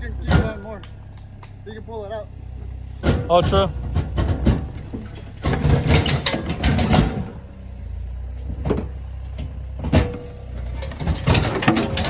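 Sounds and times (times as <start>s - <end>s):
clattering knocks: 0.0s - 1.6s, 3.0s - 12.0s
quad bike engine idling: 0.0s - 12.0s.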